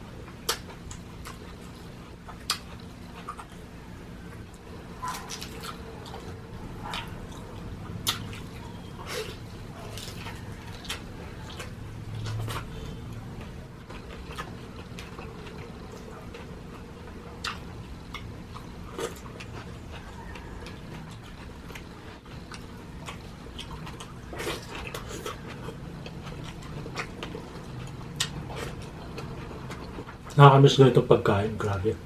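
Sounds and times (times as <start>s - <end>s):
steady low hum: 0.0s - 32.0s
chewing and wet mouth noises: 0.2s - 30.4s.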